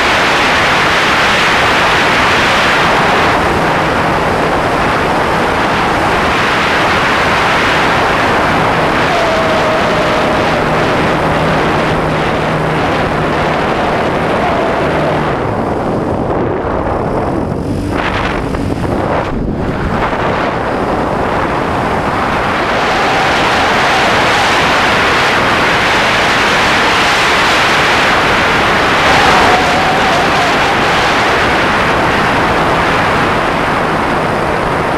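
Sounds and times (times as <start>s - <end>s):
wind rushing over camera: 0.0s - 34.9s.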